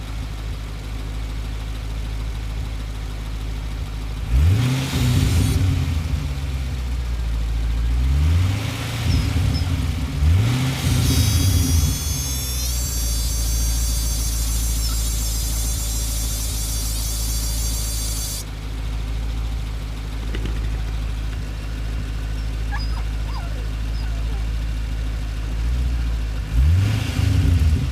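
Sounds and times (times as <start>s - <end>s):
engine idling: 0.0s - 27.9s
high-pitched engine whine: 3.8s - 27.9s
car engine revving: 4.1s - 27.9s.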